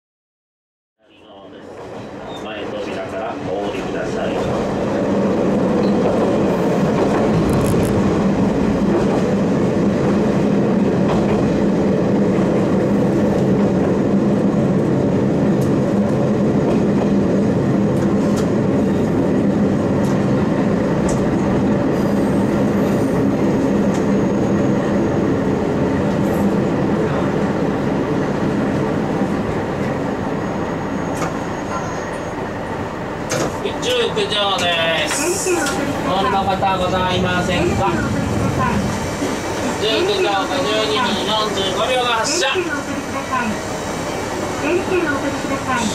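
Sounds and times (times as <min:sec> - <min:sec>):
diesel railcar engine drone: 0:01.0 - 0:45.9.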